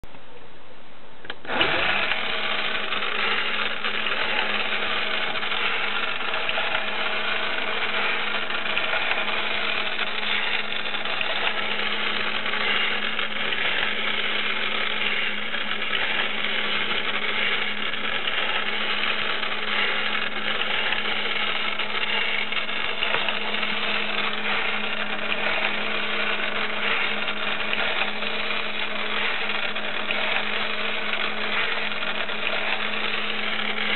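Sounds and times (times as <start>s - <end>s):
toy motor and gears whirring: 1.4s - 33.9s.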